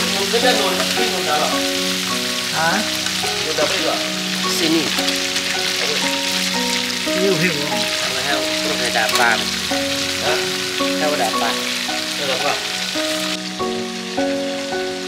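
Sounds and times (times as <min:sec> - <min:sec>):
background music of held notes: 0:00.0 - 0:15.0
food sizzling in a pan: 0:00.0 - 0:15.0.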